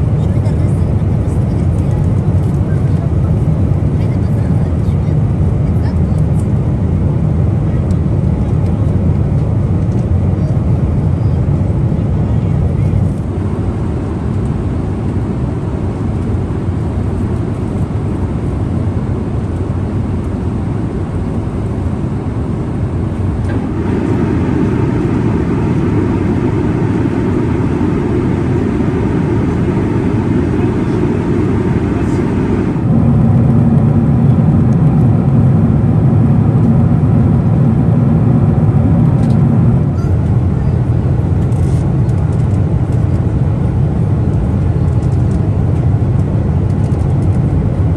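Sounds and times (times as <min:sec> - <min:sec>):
jet engine roar inside cabin: 0:00.0 - 0:47.9.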